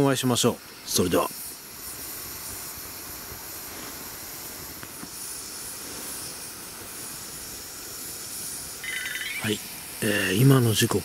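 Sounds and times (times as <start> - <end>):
fire crackles: 0.0 - 11.0
wood fire hissing: 0.0 - 11.0.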